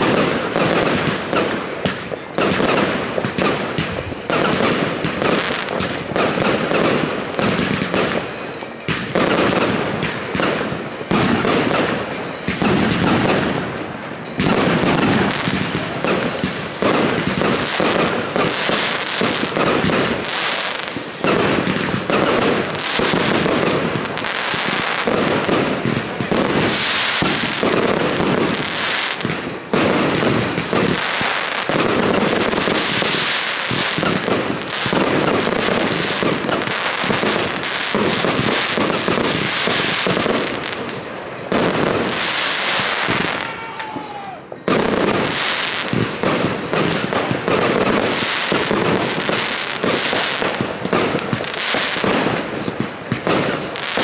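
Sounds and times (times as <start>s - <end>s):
fireworks launching and bursting: 0.0s - 54.0s.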